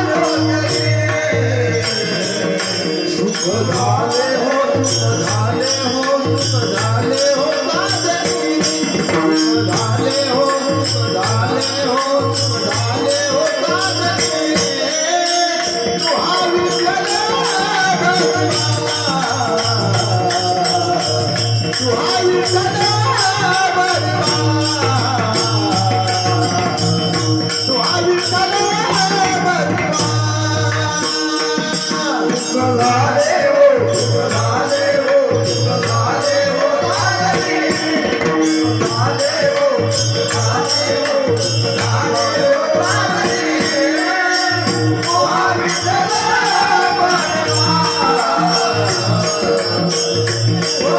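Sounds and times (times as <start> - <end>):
small jingling cymbals: 0.0 - 50.9.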